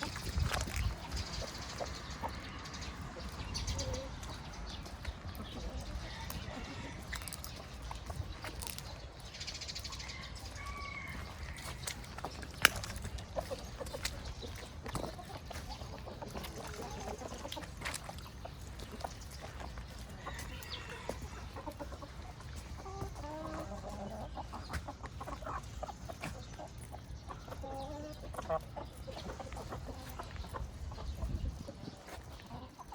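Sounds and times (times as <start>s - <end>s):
hens clucking: 0.0s - 32.9s.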